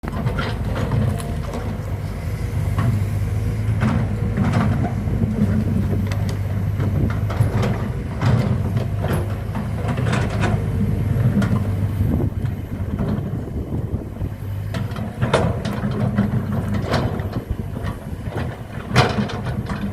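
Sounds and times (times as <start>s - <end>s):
diesel engine running: 0.0s - 19.9s
machinery knocks and clanks: 0.0s - 19.9s.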